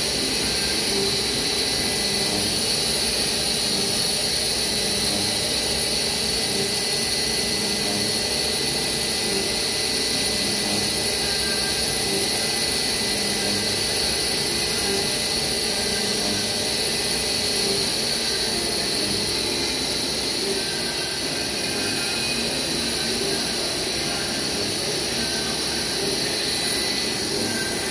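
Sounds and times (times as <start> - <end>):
milling spindle high whine: 0.0 - 27.9.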